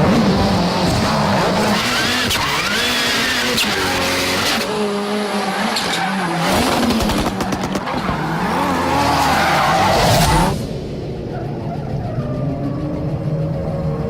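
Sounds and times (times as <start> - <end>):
rally car engine revving: 0.0 - 14.0
tyres skidding: 0.0 - 14.0.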